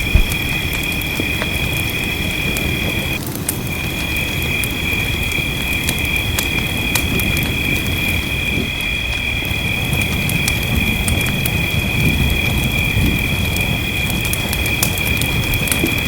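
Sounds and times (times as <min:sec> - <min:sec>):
gentle rainfall: 0:00.0 - 0:16.0
wood fire crackling: 0:00.0 - 0:16.0.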